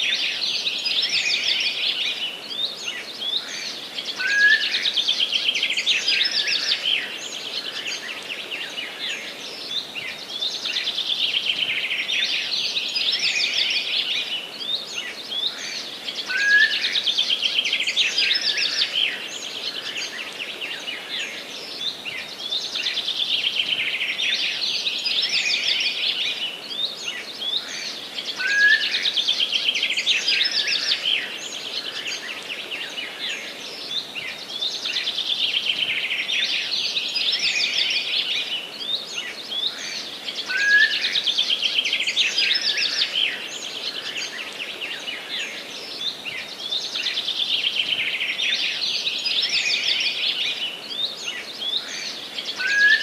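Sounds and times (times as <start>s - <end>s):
faint background hiss: 0.0s - 53.0s.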